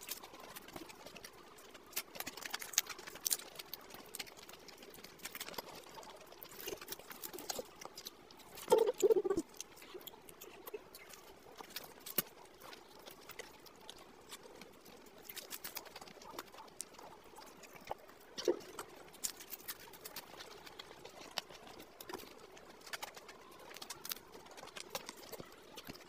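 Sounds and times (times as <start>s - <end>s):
crisp pastry chewing: 0.0s - 26.0s.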